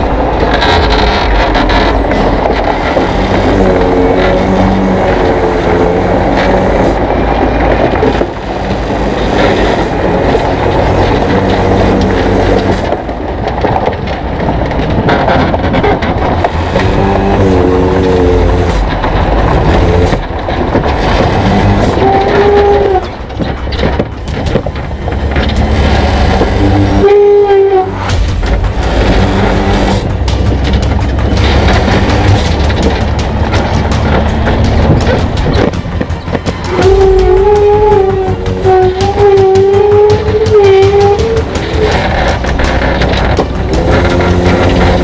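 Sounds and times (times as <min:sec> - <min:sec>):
truck rumbling and rattling: 0:00.0 - 0:45.0.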